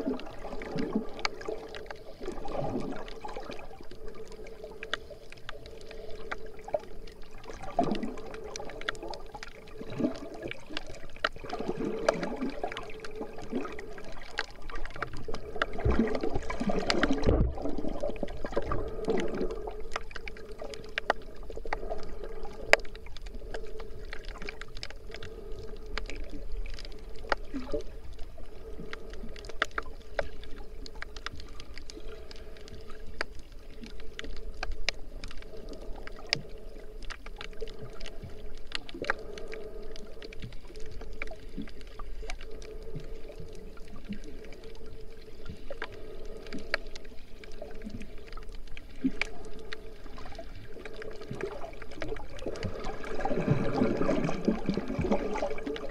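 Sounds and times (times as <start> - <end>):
faint steady hum: 0.0 - 55.9
muffled swishing of water: 0.0 - 55.9.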